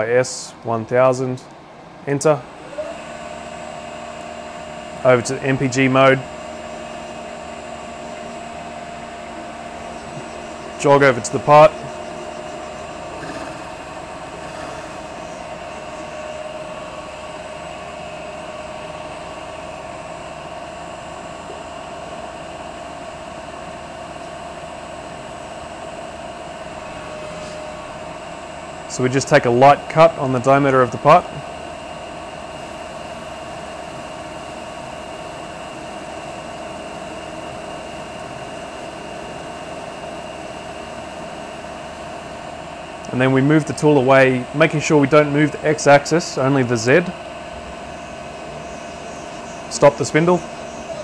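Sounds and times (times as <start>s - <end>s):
mechanical hum: 0.0s - 51.0s
lathe spindle whine: 2.3s - 51.0s.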